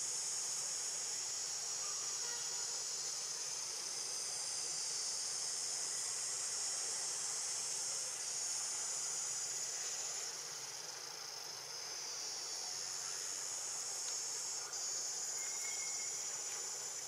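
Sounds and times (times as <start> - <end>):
shrill insect chorus: 0.1 - 17.0.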